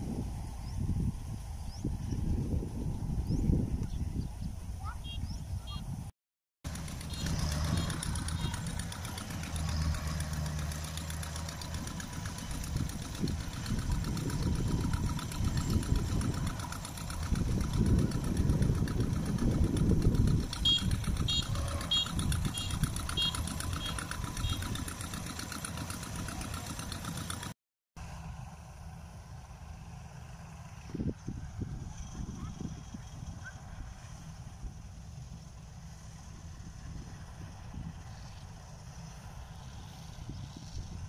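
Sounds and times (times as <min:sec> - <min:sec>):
combine harvester diesel engine: 0:06.7 - 0:41.0.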